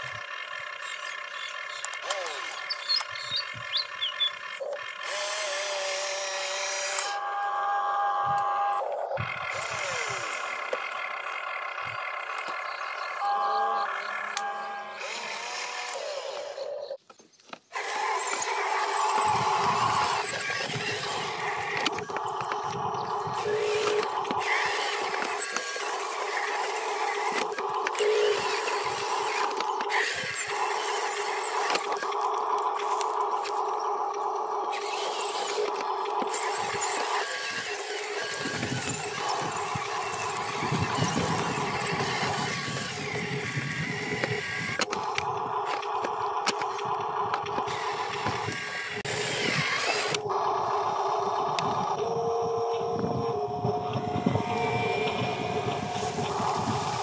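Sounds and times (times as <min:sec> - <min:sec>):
electric motor and gearbox whining: 0:00.0 - 0:57.0
wheels rumbling over dirt: 0:08.6 - 0:14.4, 0:16.4 - 0:57.0.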